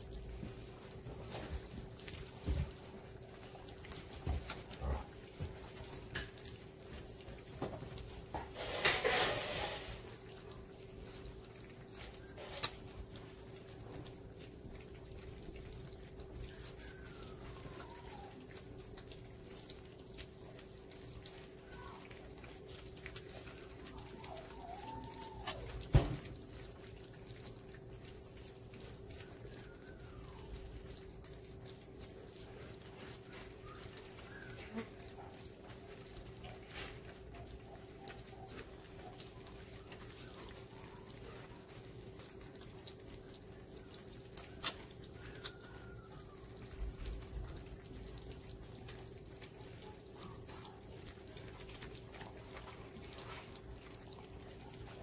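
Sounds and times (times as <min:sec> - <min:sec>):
puppies eating from metal pans: 0:00.0 - 0:55.0
puppies whining: 0:00.0 - 0:55.0.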